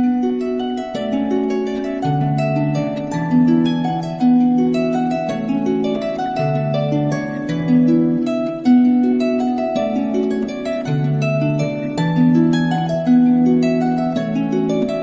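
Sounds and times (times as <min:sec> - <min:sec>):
harp playing slow melody: 0:00.0 - 0:15.0.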